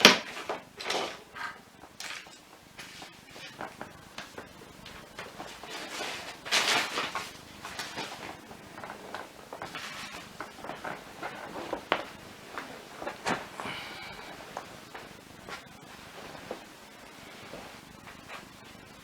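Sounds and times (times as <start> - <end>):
tools rummaged clicks and rustling: 0.0 - 19.0.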